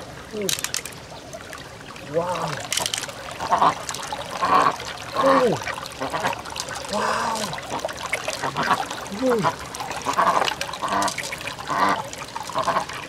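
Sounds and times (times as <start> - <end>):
wet squelching and sloshing: 0.4 - 13.0.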